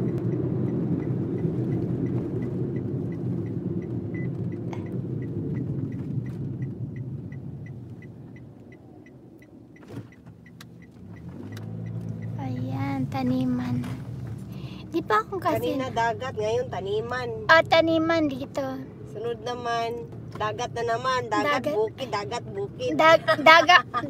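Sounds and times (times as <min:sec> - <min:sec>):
road and engine noise: 0:00.0 - 0:24.0
turn signal ticking: 0:00.0 - 0:24.0.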